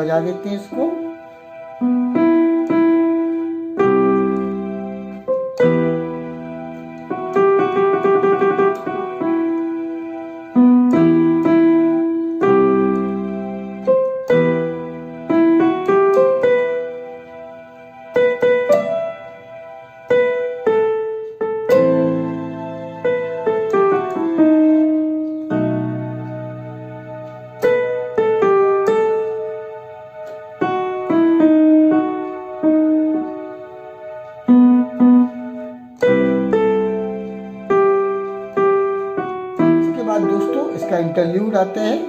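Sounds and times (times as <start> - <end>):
electronic keyboard melody: 0.0 - 42.0.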